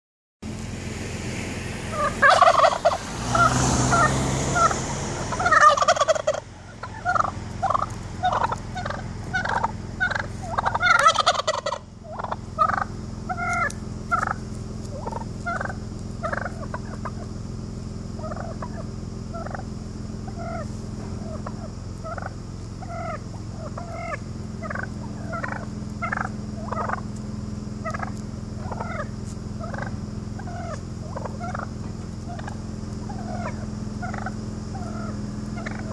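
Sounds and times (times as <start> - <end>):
wild turkeys calling: 1.8 - 35.9.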